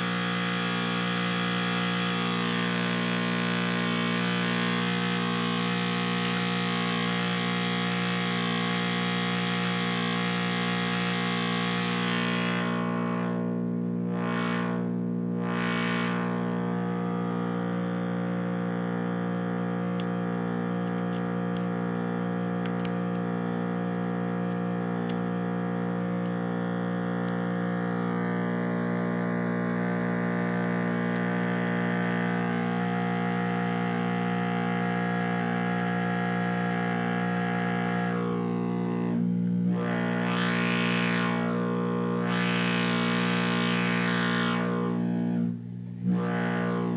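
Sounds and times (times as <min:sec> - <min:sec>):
synthesizer sawtooth drone: 0:00.0 - 0:46.9.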